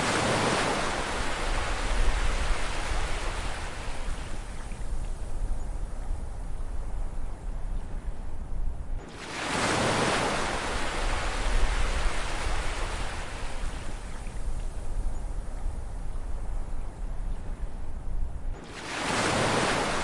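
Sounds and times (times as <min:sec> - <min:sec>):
low rumble of surf: 0:00.0 - 0:20.0.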